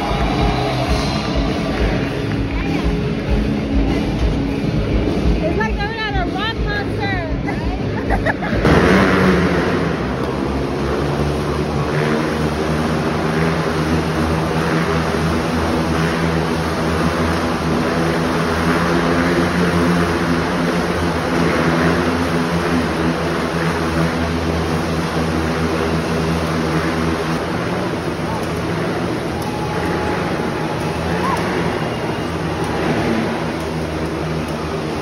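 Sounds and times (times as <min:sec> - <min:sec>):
motorcycle engines droning: 0:00.0 - 0:35.0.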